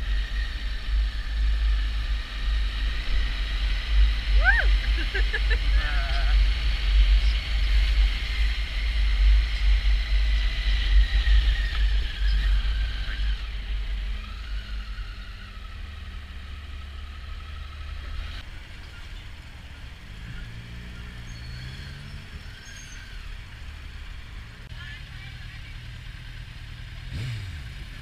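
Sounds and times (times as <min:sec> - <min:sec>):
motorcycle engine whine: 0:00.0 - 0:28.0.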